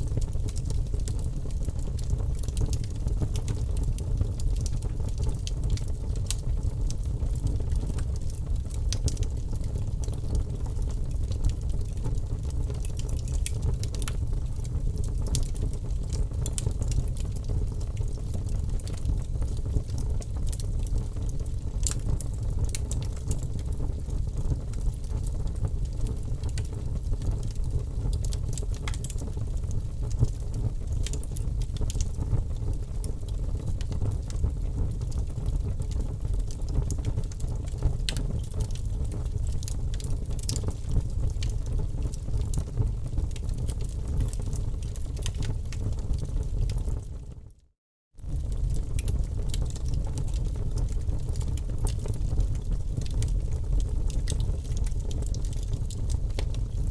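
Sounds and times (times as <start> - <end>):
burning logs crackling and popping: 0.1 - 47.0, 48.2 - 56.8.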